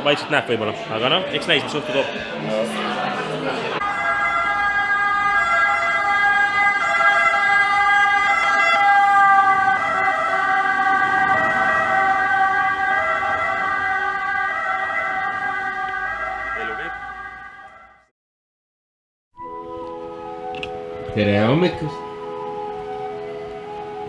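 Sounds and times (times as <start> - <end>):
emergency vehicle sirens: 0.7 - 18.1, 19.4 - 24.0.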